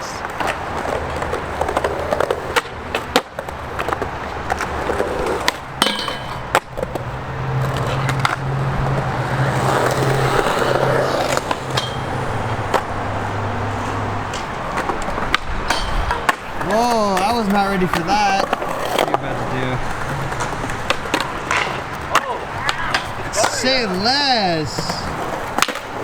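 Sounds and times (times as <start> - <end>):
skateboard clacking on ground: 0.0 - 26.0
skateboard wheels rolling: 0.0 - 26.0.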